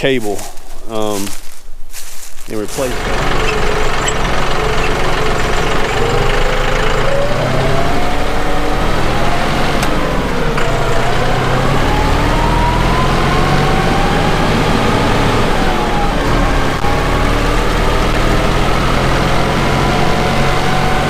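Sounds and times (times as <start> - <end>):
vehicle engine with whine: 1.9 - 21.0.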